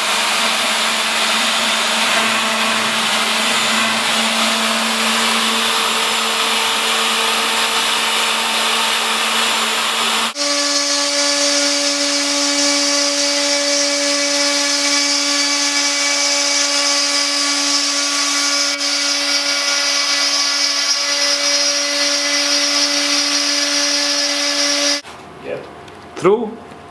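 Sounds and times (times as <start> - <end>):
cnc machine motor whine: 0.0 - 25.0.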